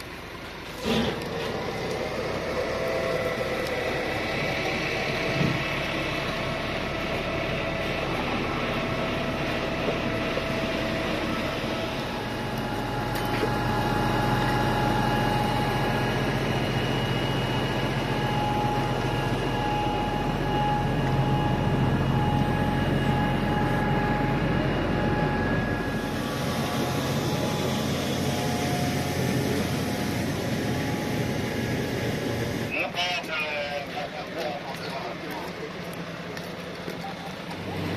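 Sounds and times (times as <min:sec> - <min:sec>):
fire engine pump droning: 0:00.0 - 0:37.9.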